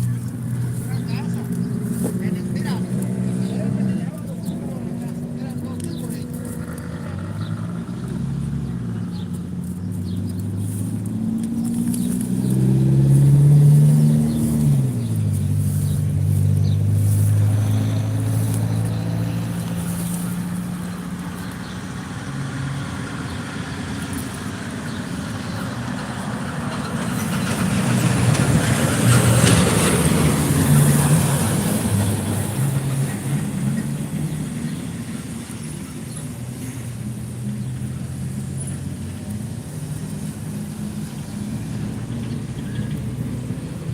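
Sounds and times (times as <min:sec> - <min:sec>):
vehicle engine running: 0:00.0 - 0:43.9.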